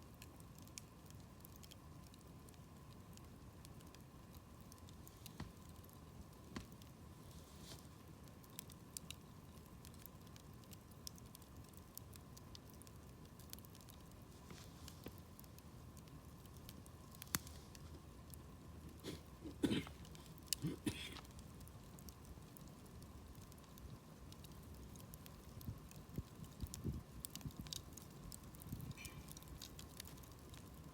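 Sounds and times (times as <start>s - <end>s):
campfire crackling: 0.0s - 30.9s
low hiss: 0.0s - 30.9s.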